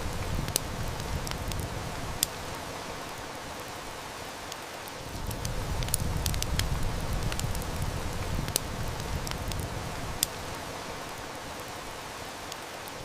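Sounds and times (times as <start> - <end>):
rain hiss: 0.0 - 13.0
wood fire crackling: 0.0 - 13.0.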